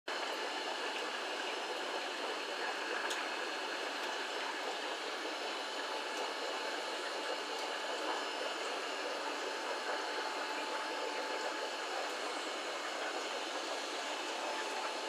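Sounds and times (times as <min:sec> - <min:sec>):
aquarium filter water rushing: 0:00.1 - 0:15.0.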